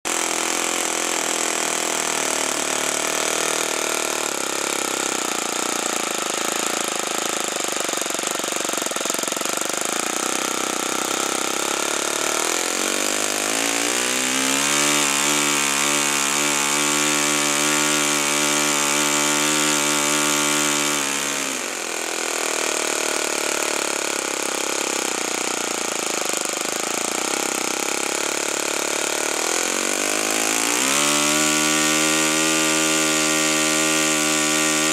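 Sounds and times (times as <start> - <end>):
model engine running: 0.1 - 34.9.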